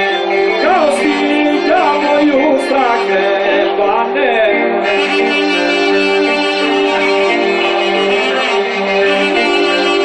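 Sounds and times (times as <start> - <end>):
clarinet melody: 0.0 - 10.0
folk band playing: 0.0 - 10.0
violin: 0.0 - 10.0.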